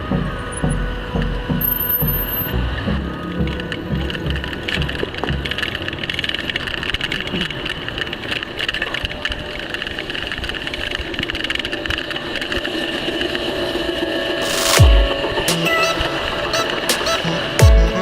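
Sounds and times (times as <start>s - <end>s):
bicycle riding rush: 0.0s - 18.0s.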